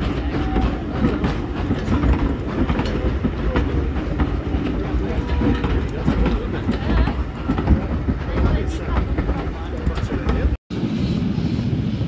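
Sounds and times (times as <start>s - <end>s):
train wheels clicking over rail joints: 0.0s - 10.6s.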